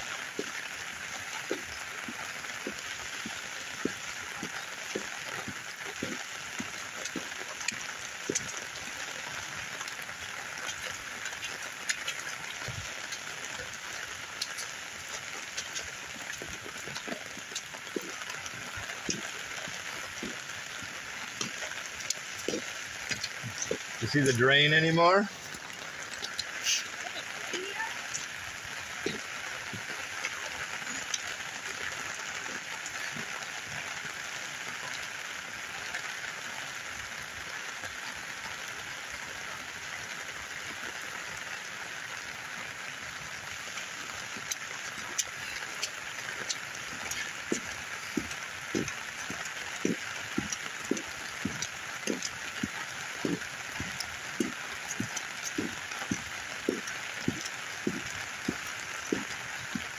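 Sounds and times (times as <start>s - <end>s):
floodwater rushing: 0.0s - 59.9s
rain falling: 0.0s - 59.9s.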